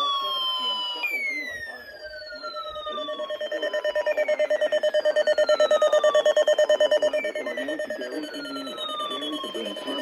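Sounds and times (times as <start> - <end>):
rapidly pulsing alarm beeps: 0.0 - 10.0.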